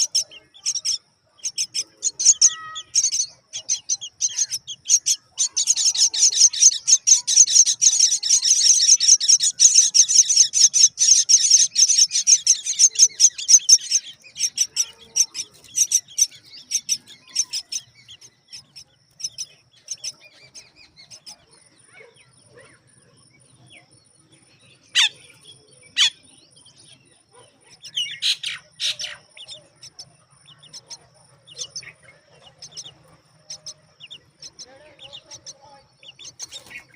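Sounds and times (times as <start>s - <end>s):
nestlings begging with shrill chirps: 0.0s - 36.9s
sharp bird calls: 0.0s - 36.9s.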